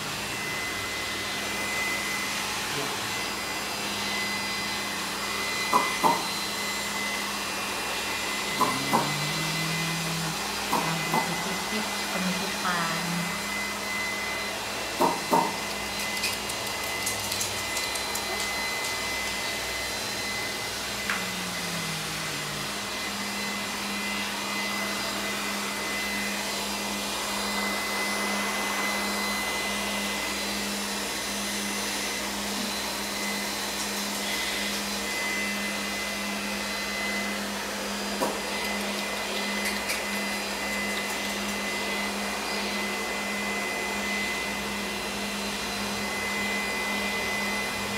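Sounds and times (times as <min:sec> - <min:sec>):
electric motor blowing air: 0:00.0 - 0:47.9.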